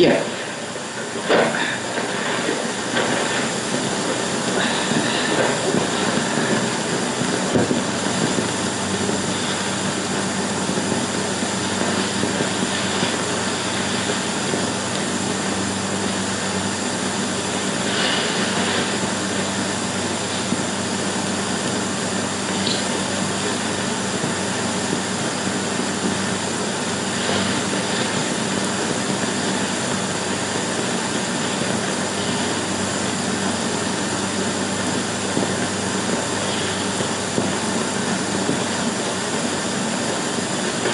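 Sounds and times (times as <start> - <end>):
film soundtrack rushing noise: 0.0 - 40.9
low hum: 0.0 - 40.9.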